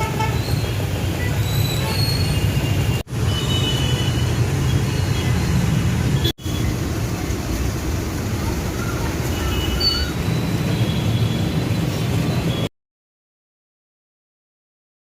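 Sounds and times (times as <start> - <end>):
road traffic rumble: 0.0 - 12.7.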